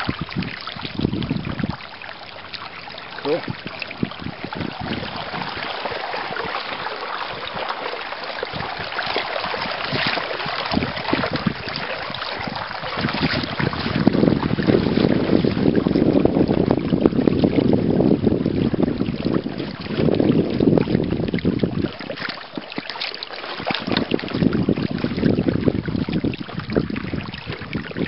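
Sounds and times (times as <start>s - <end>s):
wind buffeting microphone: 0.0s - 22.4s, 23.6s - 28.0s
water washing past boat: 0.0s - 28.0s.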